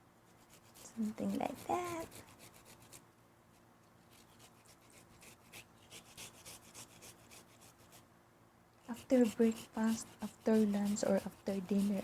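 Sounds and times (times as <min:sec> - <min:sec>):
soft rubbing handling noise: 0:00.2 - 0:08.1, 0:08.8 - 0:12.0.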